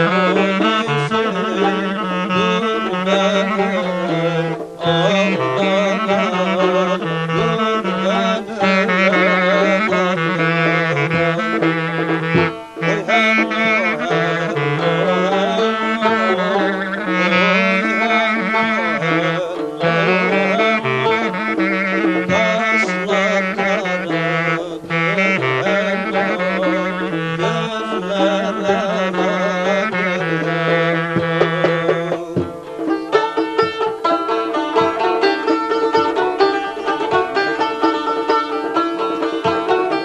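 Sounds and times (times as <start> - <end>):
clarinet melody: 0.0 - 40.0
plucked string instrument: 0.0 - 40.0.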